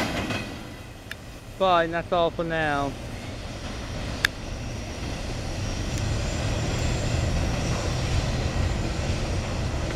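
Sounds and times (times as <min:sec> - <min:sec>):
freight train rumbling: 0:00.0 - 0:09.9.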